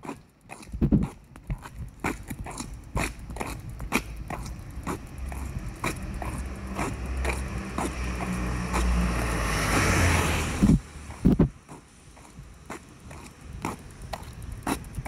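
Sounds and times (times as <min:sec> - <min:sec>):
footsteps walking: 0:00.0 - 0:14.8
sharp thumps: 0:00.1 - 0:09.3, 0:10.6 - 0:15.0.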